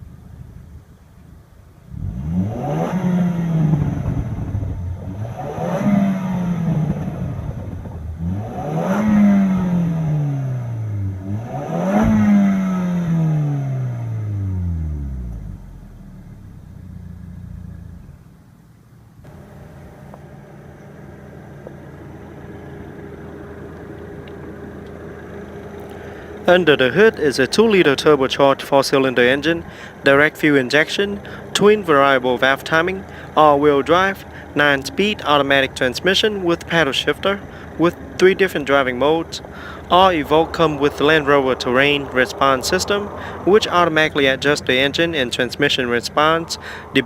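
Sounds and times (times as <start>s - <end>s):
car engine idling: 0.0s - 47.0s
car engine revving: 1.8s - 18.6s, 19.2s - 47.0s.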